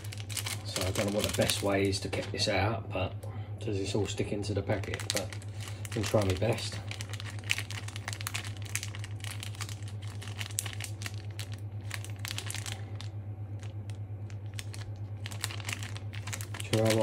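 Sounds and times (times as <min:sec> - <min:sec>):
plastic sachet crinkling: 0:00.0 - 0:02.4, 0:04.0 - 0:17.0
steady low hum: 0:00.0 - 0:17.0.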